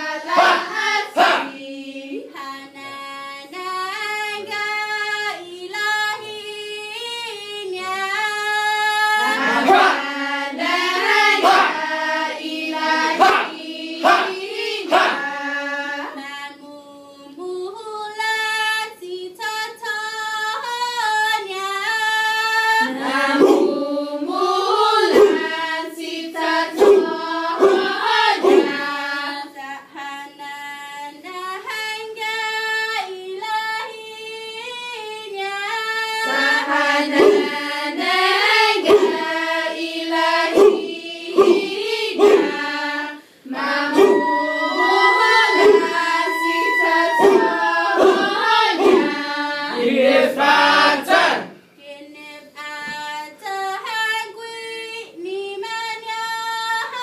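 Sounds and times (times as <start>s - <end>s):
women singing a chant: 0.0s - 57.0s.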